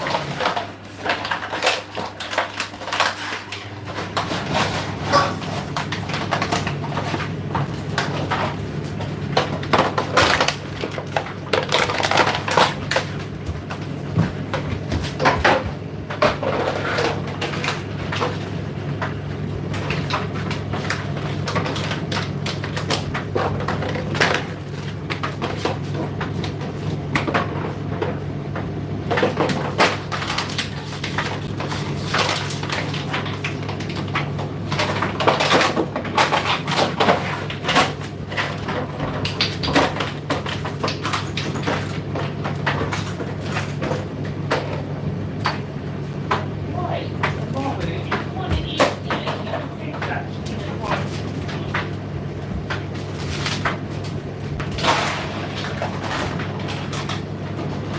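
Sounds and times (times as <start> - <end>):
tumble dryer motor hum: 0.0 - 57.9.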